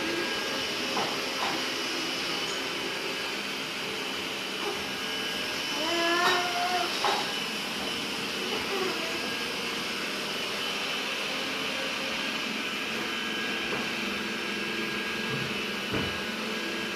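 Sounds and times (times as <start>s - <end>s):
robot vacuum cleaner whirring: 0.0s - 16.9s.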